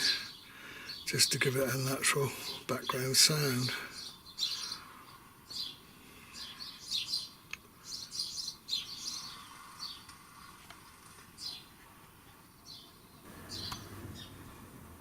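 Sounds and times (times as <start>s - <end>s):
recorded birdsong chirps: 0.0s - 15.0s.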